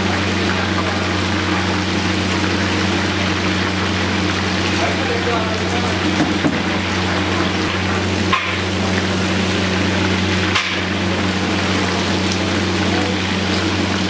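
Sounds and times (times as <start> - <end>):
chicken frying in bubbling oil: 0.0 - 14.0.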